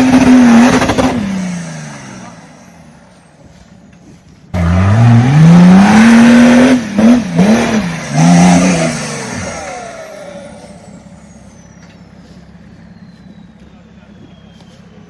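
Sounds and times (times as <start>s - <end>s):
off-road vehicle engine revving: 0.0s - 3.6s, 4.5s - 15.0s.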